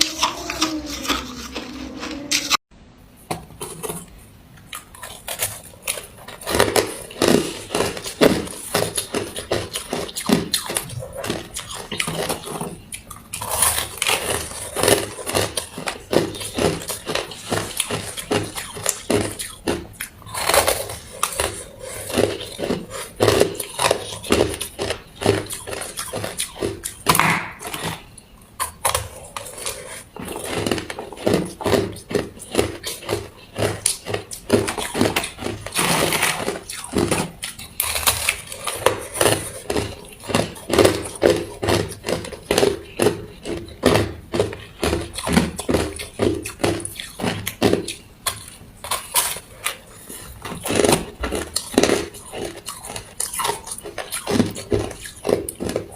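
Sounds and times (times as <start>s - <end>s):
ice crunching between teeth: 4.7s - 55.9s.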